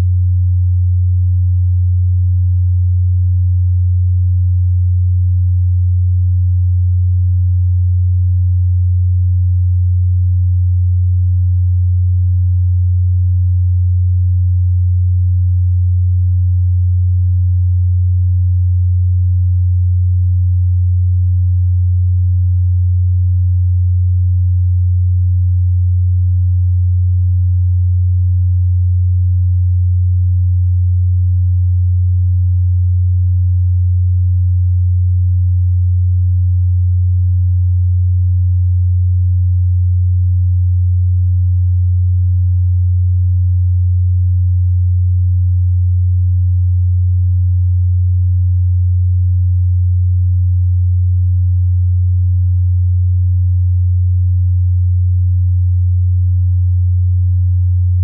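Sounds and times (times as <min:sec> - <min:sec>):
low sine tone: 0:00.0 - 0:53.5, 0:54.4 - 0:58.0.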